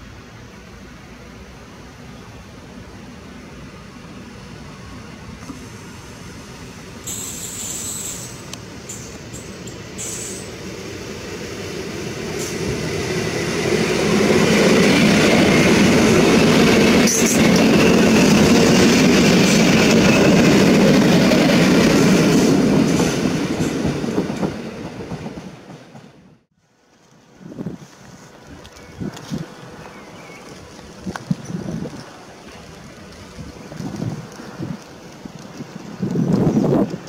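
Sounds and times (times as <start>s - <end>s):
train wheels rolling on rails: 0.2s - 37.0s.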